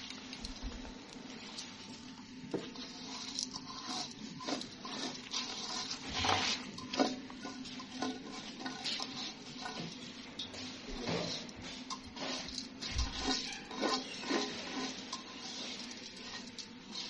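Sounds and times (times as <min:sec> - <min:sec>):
rice sizzling into a pan: 0:00.0 - 0:17.0
metal scraping and clicking: 0:02.8 - 0:17.0.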